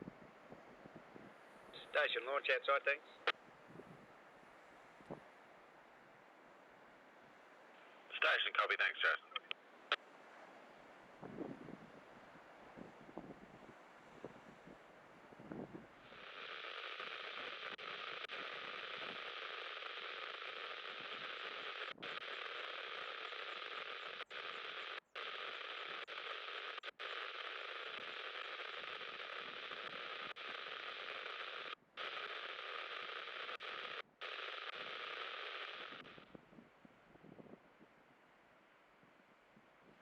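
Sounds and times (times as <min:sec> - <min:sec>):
radio static hiss: 0:01.6 - 0:10.2, 0:11.1 - 0:38.3.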